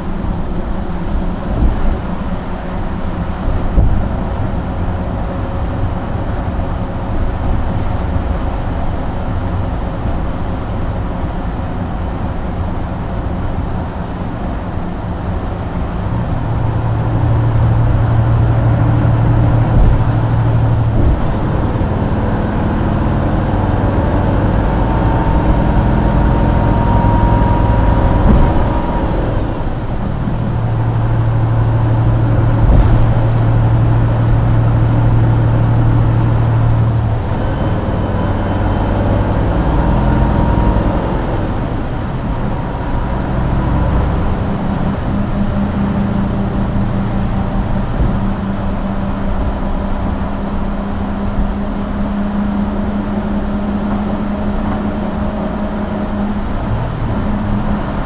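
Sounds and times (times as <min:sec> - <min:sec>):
bus engine droning: 0:00.0 - 0:58.0
road noise: 0:00.0 - 0:58.0.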